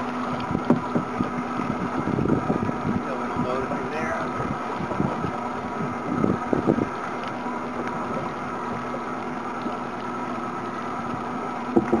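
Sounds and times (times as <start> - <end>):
hiss of wind and water: 0.0 - 12.0
motorboat engine humming: 0.0 - 12.0.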